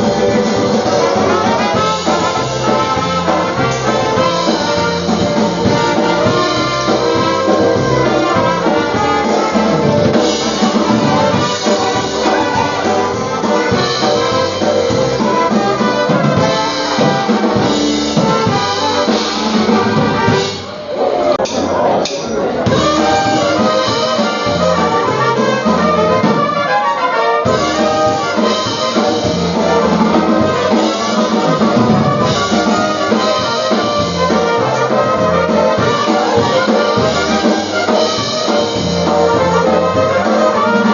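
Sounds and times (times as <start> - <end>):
polka band playing: 0.0 - 40.9
trumpet: 0.0 - 40.9.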